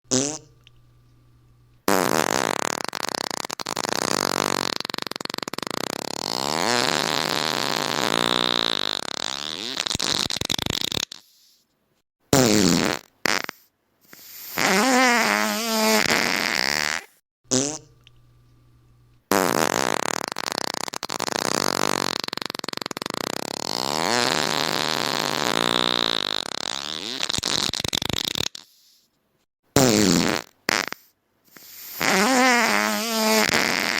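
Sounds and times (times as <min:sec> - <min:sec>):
fart sound effects: 0:00.1 - 0:00.6, 0:01.9 - 0:11.4, 0:12.3 - 0:18.0, 0:19.3 - 0:28.8, 0:29.8 - 0:33.9.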